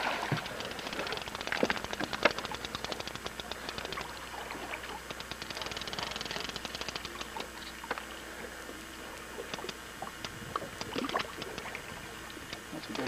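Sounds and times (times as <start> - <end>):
water lapping against boat hull: 0.0 - 13.0
small clicks and knocks: 0.3 - 8.1, 9.4 - 13.0.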